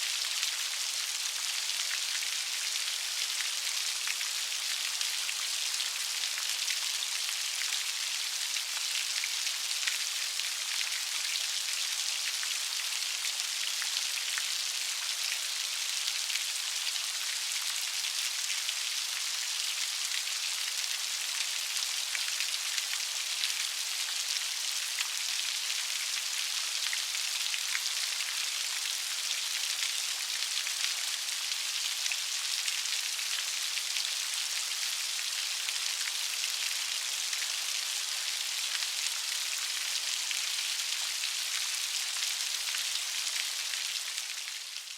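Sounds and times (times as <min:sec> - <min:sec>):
light rain pattering: 0:00.0 - 0:44.9.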